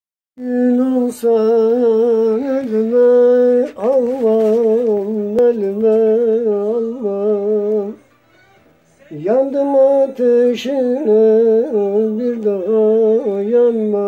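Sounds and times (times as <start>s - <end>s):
old man singing: 0.4s - 14.0s.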